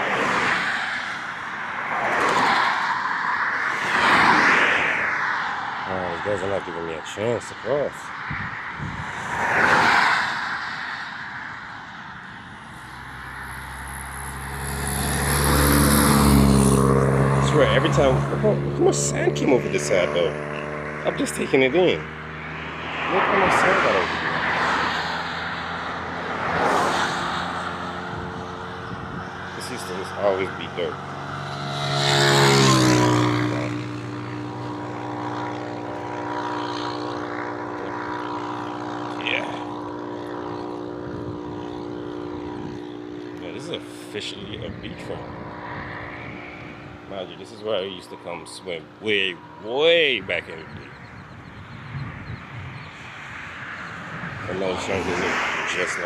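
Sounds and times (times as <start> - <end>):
vehicle engine hum: 0.0 - 56.0
vehicle passing: 0.0 - 56.0.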